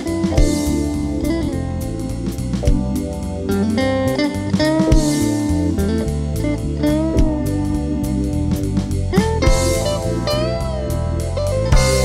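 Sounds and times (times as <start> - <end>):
bass guitar: 0.0 - 12.0
drums: 0.0 - 12.0
electric guitar lead: 0.0 - 12.0.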